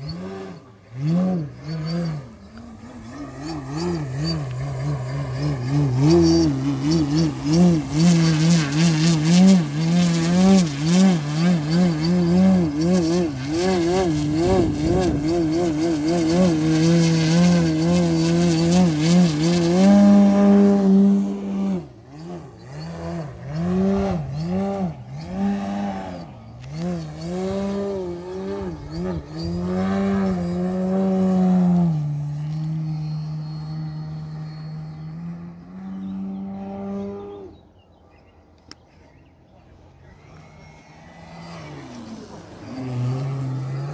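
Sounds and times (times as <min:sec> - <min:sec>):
model plane propeller drone: 0:00.0 - 0:43.9.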